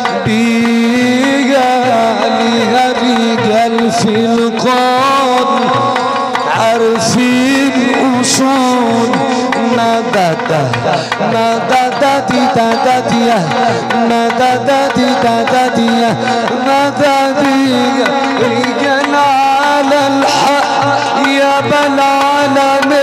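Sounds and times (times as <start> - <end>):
frame drum: 0.0 - 23.0
goblet drum beat: 0.0 - 23.0
oud melody: 0.0 - 23.0.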